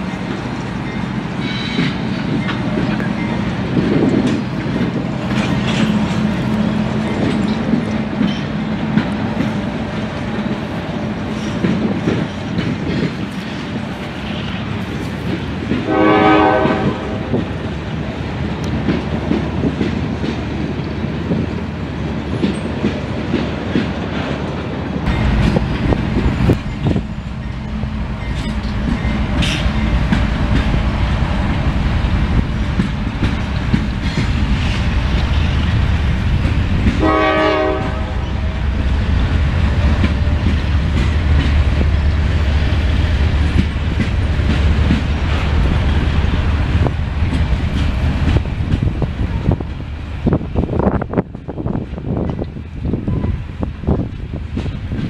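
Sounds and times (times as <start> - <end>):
diesel locomotive engine rumble: 0.0 - 55.0
freight cars rumbling: 0.0 - 55.0.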